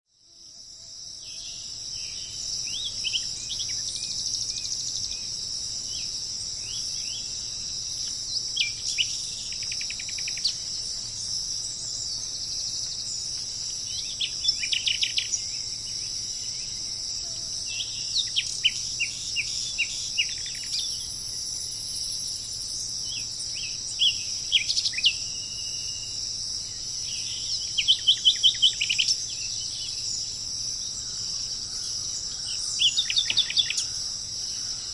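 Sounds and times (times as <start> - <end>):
high-pitched insect chorus: 0.1 - 34.9
bird calls: 1.3 - 34.9.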